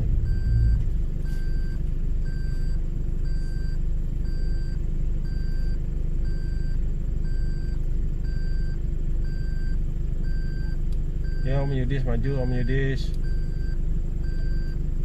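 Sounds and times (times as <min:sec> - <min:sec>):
reversing beeper: 0:00.0 - 0:14.8
low engine rumble: 0:00.0 - 0:15.0.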